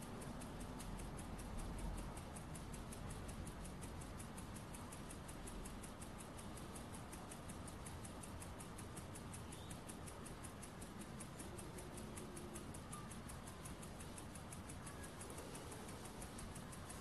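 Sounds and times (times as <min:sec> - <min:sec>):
small steam engine ticking: 0:00.0 - 0:17.0.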